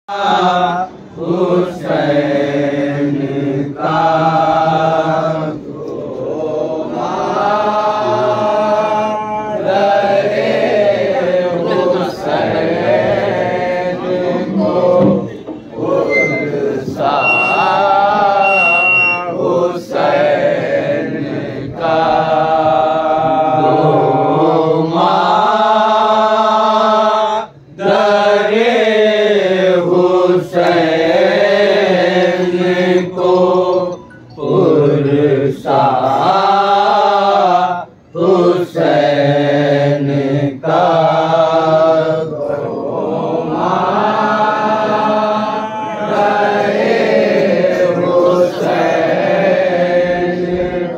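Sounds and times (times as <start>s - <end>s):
men chanting a lament: 0.1s - 50.9s.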